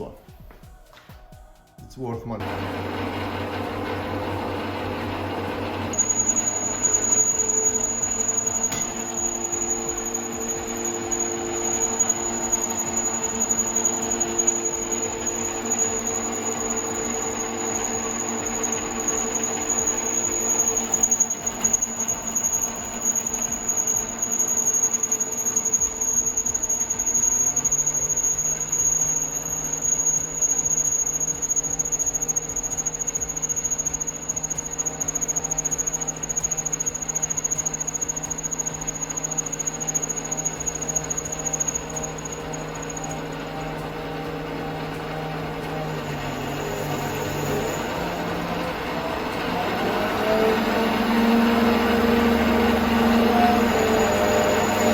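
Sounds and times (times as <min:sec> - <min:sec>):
metal lathe running: 0:02.4 - 0:54.9.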